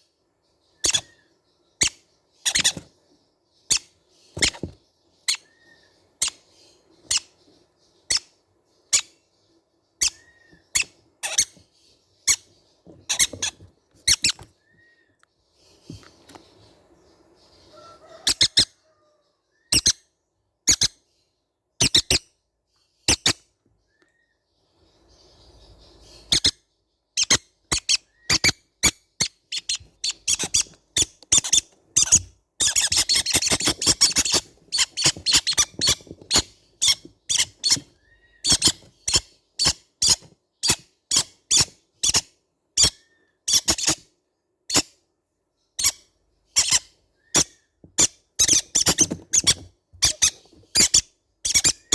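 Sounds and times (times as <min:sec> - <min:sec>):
baby parrots squeaky chirps: 0:00.8 - 0:03.0, 0:03.6 - 0:09.2, 0:10.0 - 0:15.1, 0:17.4 - 0:20.1, 0:20.7 - 0:21.0, 0:21.8 - 0:22.3, 0:23.0 - 0:23.5, 0:25.2 - 0:44.1, 0:44.7 - 0:44.9, 0:45.8 - 0:51.9.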